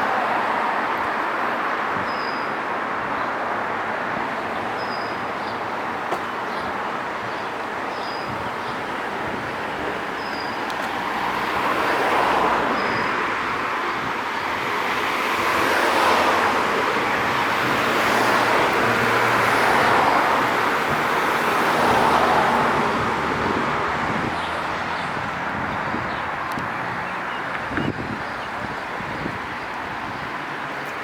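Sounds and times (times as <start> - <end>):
cars passing: 0.0 - 31.0.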